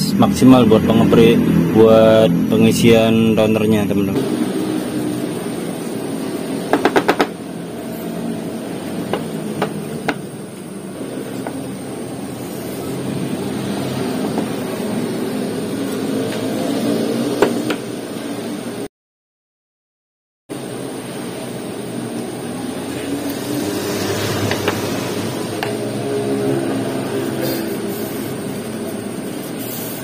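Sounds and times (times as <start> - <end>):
steady background hum: 0.0 - 18.9, 20.5 - 30.0.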